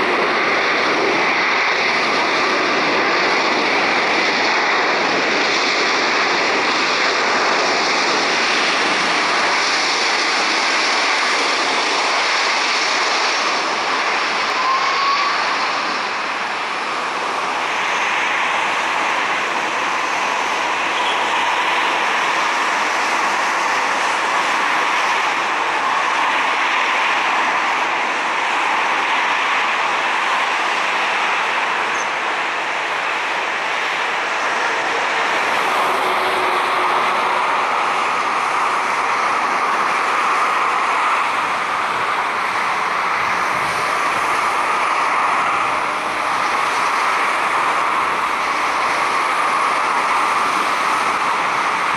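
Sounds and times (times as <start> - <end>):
jet engines at power: 0.0 - 51.9.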